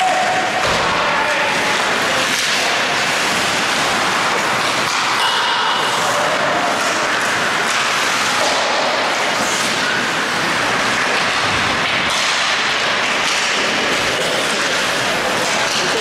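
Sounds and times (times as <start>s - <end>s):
hockey sticks clacking: 0.0s - 16.0s
skates scraping ice: 0.0s - 16.0s
steady rushing noise: 0.0s - 16.0s.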